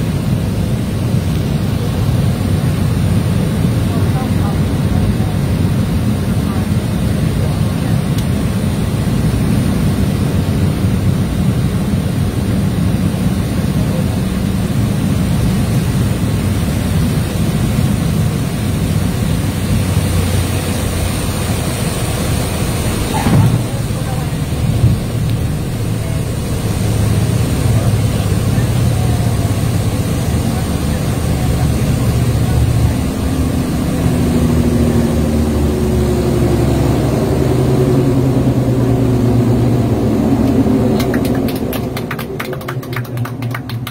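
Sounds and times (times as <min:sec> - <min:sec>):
aircraft engine and airflow noise: 0:00.0 - 0:43.9.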